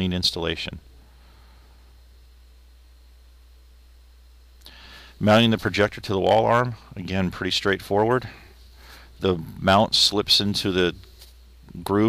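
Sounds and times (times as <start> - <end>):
faint hiss: 0.0 - 12.0
steady low hum: 0.0 - 12.0.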